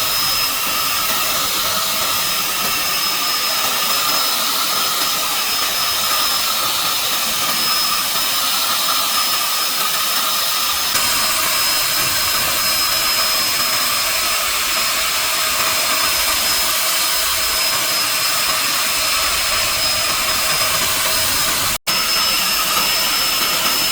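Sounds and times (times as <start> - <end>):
paint spray gun hissing: 0.0 - 23.9.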